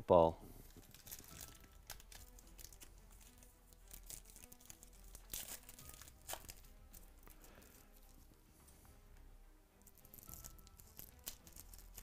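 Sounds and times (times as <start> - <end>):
foil wrapper tearing and crinkling: 0.7 - 8.2, 9.9 - 12.0.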